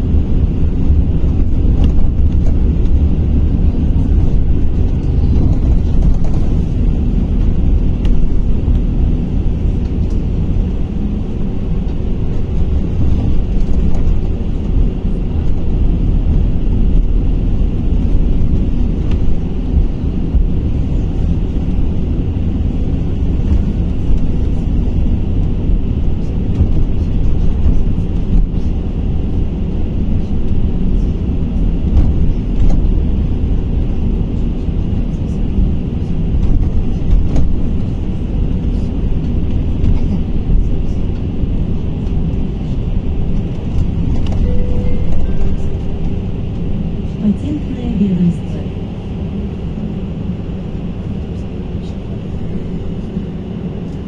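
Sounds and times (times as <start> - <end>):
road and tyre rumble: 0.0 - 54.0.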